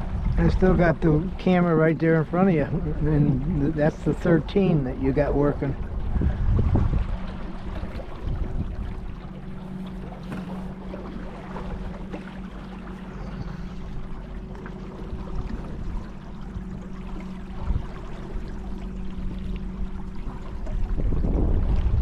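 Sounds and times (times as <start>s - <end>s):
small boat motor running: 0.0s - 22.0s
water washing along hull: 0.0s - 22.0s.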